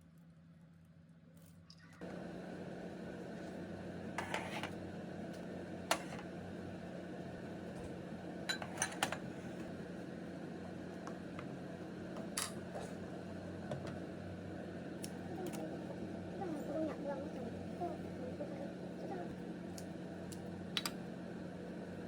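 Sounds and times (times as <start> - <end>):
steady low hum: 2.0 - 22.0.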